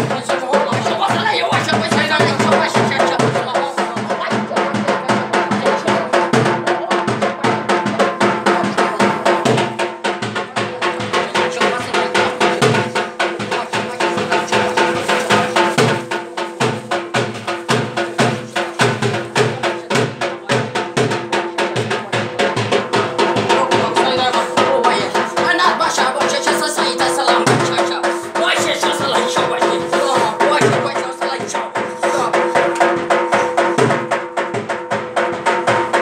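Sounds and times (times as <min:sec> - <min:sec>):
fast steady drumming: 0:00.0 - 0:36.0.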